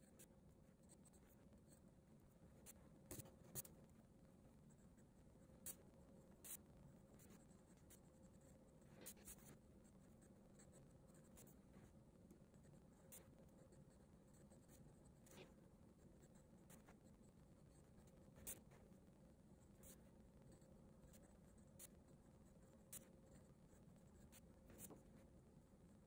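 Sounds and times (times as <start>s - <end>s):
pencil scratching on paper: 2.5s - 3.8s, 4.7s - 18.9s, 19.7s - 25.3s.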